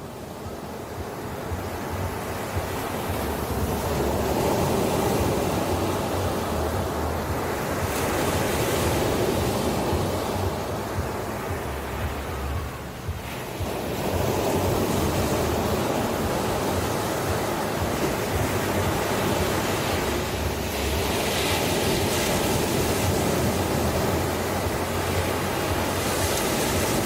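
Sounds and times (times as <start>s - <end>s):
ocean waves washing ashore: 0.0s - 27.0s.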